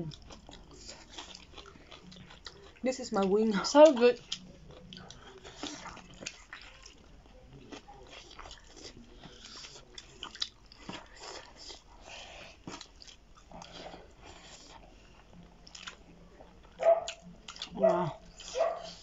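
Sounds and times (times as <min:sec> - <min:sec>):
people biting and chewing meat: 0:00.0 - 0:02.8, 0:03.4 - 0:19.0.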